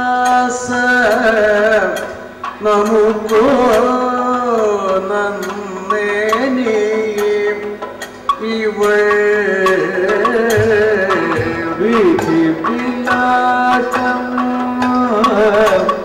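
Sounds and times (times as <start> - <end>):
man singing long sliding notes: 0.0 - 16.0
sharp percussion strikes: 0.0 - 16.0.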